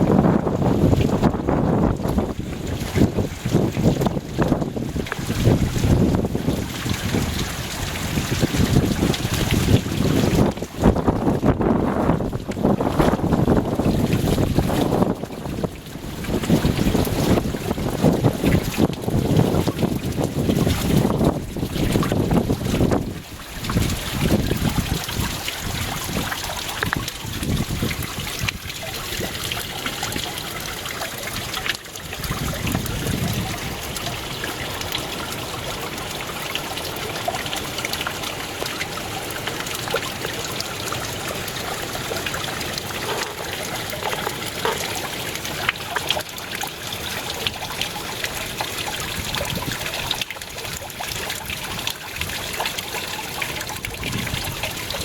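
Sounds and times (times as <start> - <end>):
stream splashing over rock: 0.0 - 55.0.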